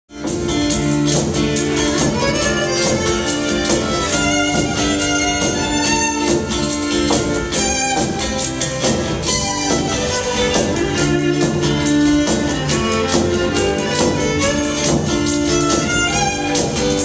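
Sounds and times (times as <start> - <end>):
electric guitar: 0.1 - 17.0
steady drum beat: 0.1 - 17.0
fiddle melody: 0.2 - 17.0.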